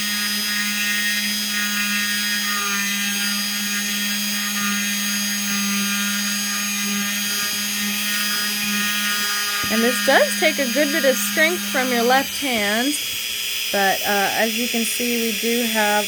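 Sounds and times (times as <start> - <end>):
rotary tool motor whining: 0.0 - 16.0.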